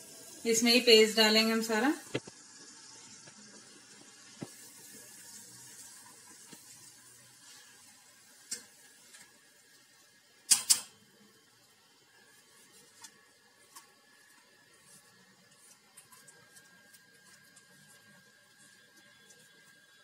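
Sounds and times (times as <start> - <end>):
syrup boiling hiss: 0.0 - 20.0.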